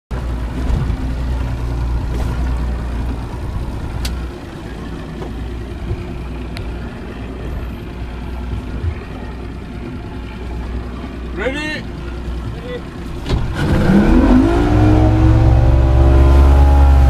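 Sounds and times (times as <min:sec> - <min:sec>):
outboard motor droning: 0:00.1 - 0:17.0
wind and water rushing: 0:00.1 - 0:17.0.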